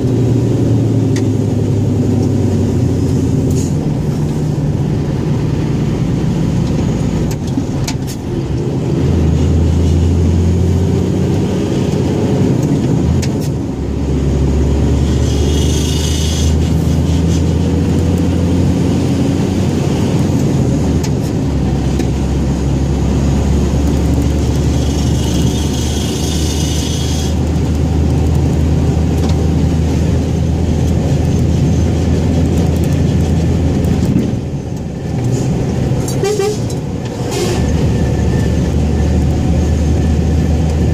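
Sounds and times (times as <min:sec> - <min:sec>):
diesel truck engine under load: 0:00.0 - 0:40.9.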